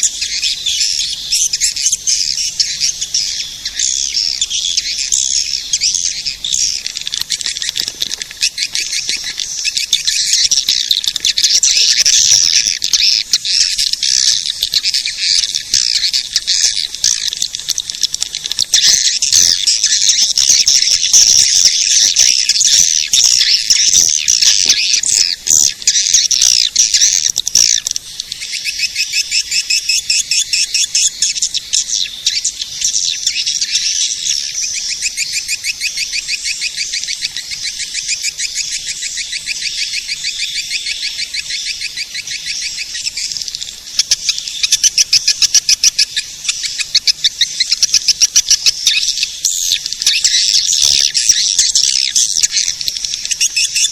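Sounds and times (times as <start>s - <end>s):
swiftlets twittering: 0.0s - 53.9s.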